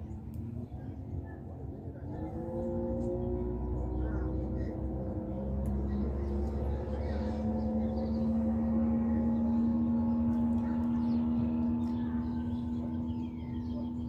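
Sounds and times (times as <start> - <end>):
birds chirping faintly: 0.0 - 14.0
steady low-pitched hum: 0.0 - 14.0.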